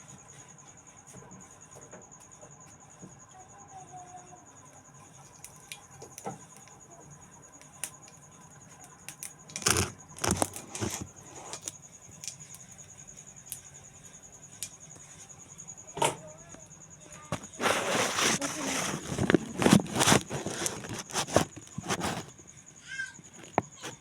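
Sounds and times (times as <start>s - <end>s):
cricket trilling: 0.0s - 24.0s.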